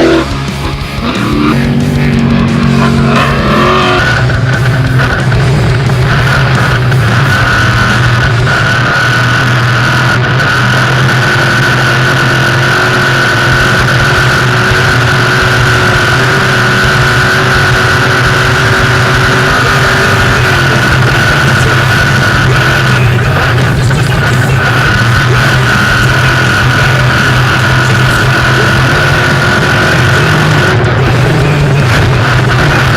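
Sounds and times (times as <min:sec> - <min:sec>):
vehicle engine running: 0:00.0 - 0:32.9.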